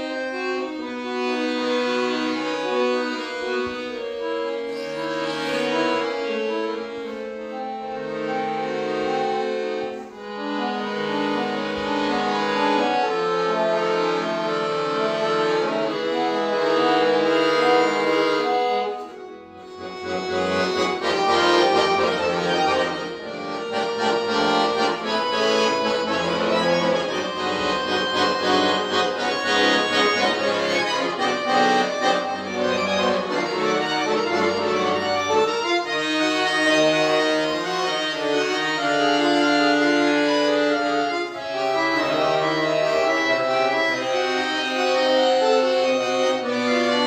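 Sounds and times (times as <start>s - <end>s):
accordion playing slow chords: 0.0s - 47.0s.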